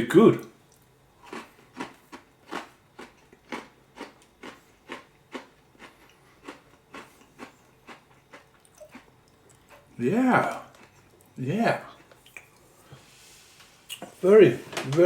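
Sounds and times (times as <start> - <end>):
chewing crunchy cookie: 0.6 - 12.7.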